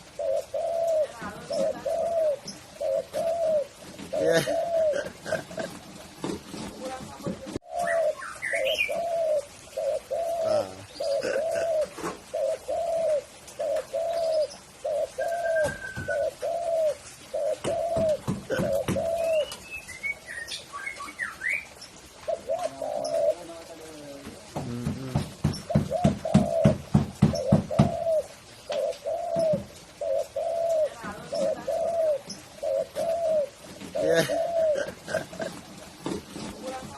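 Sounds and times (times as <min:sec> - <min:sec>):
dove cooing: 0:00.0 - 0:19.6, 0:22.0 - 0:36.9
small birds chirping: 0:00.0 - 0:36.9.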